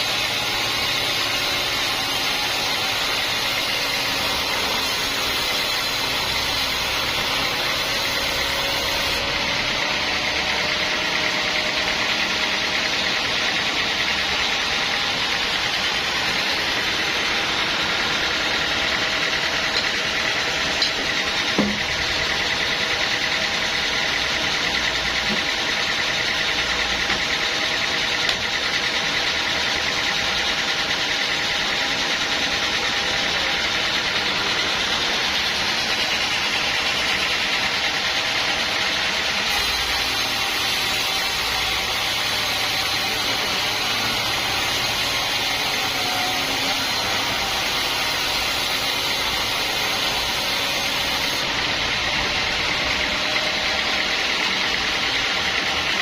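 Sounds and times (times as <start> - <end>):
machine engine humming: 0.0 - 56.0.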